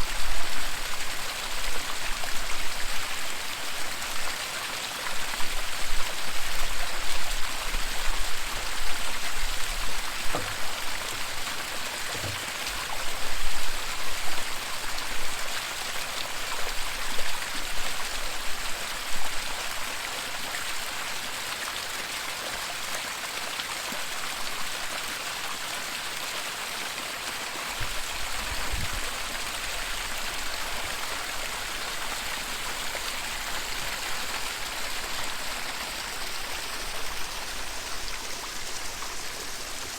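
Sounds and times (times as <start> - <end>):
waterfall splashing into stream: 0.0 - 39.9.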